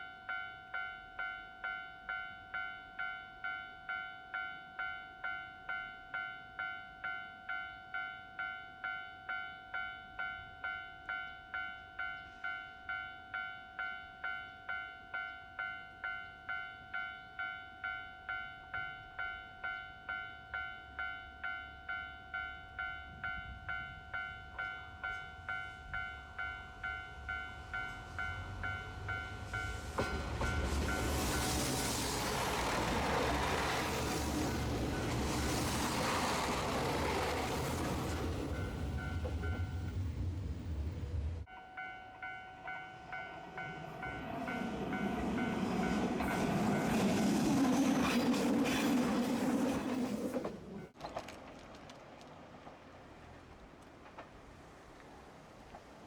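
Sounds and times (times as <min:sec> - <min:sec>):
low rumble of approaching train: 0:05.2 - 0:56.0.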